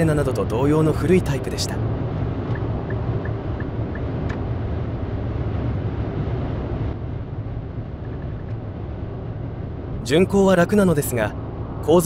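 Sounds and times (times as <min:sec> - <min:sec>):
car cabin road and wind noise: 0:00.0 - 0:12.0
deep tyre rumble: 0:00.0 - 0:12.0.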